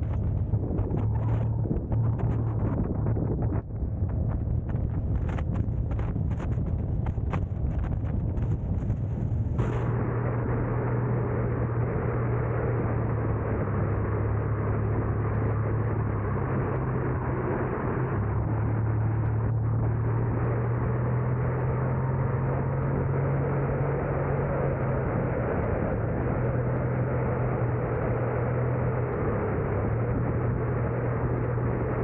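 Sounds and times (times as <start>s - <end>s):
car engine drone: 0.0s - 32.0s
road and tyre noise: 0.0s - 32.0s.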